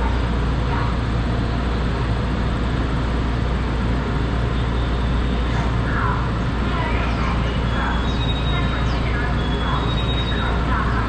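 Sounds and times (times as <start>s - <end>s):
train wheel and rail rumble: 0.0s - 11.0s.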